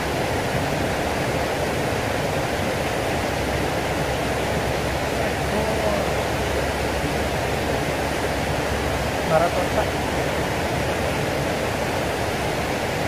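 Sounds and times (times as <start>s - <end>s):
water rushing along canal: 0.0s - 13.0s.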